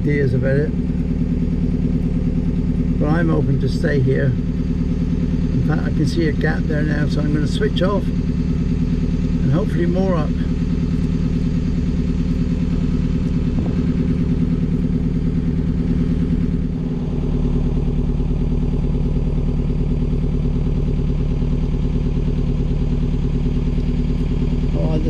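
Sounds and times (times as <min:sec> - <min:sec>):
boat diesel engine running: 0:00.0 - 0:25.0.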